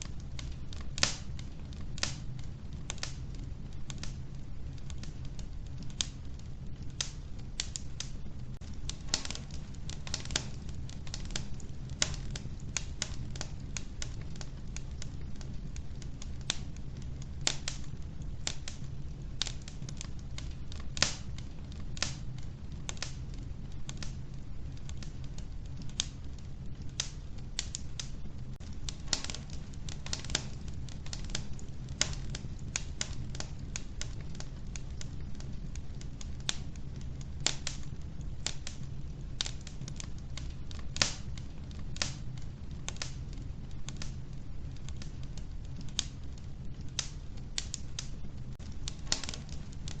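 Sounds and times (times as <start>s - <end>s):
logs crackling and popping: 0.0s - 50.0s
low rumble of burning fire: 0.0s - 50.0s.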